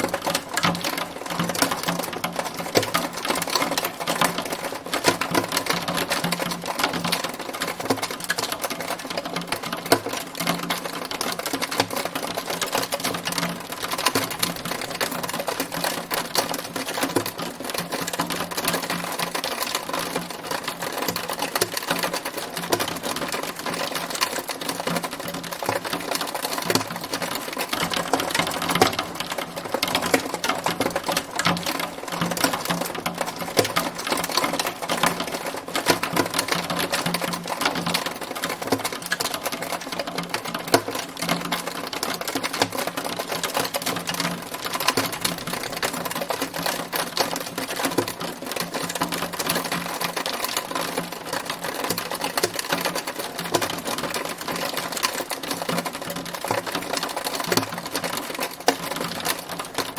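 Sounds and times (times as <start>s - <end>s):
hailstones striking hard surface: 0.1s - 59.9s.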